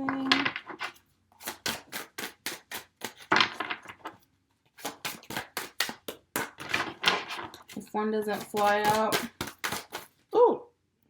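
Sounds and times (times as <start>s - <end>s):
cards being shuffled: 0.6s - 4.2s, 4.8s - 10.2s.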